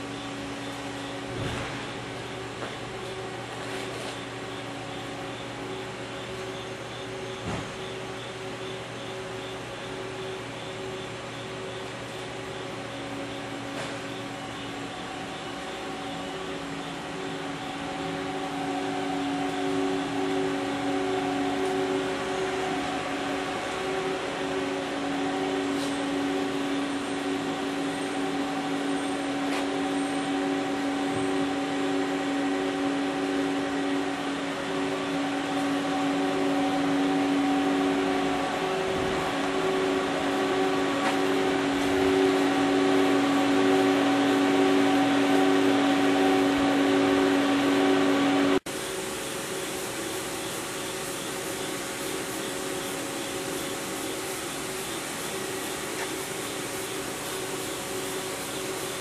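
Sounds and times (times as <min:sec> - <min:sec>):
lathe motor hum and whine: 0:00.0 - 0:59.0.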